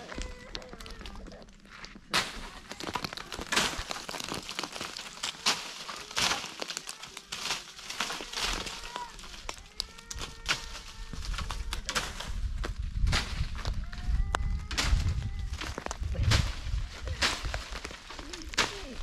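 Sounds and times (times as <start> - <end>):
dry twigs crackling and snapping: 0.0 - 19.0.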